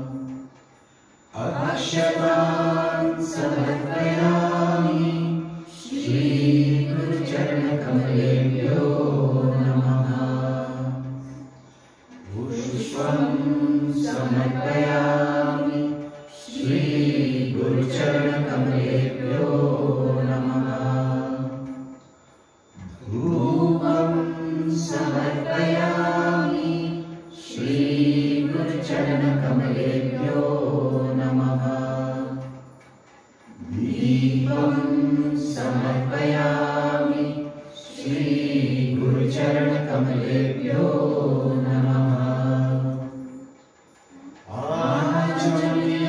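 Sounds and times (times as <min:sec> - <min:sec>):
voices chanting: 0:00.0 - 0:46.0.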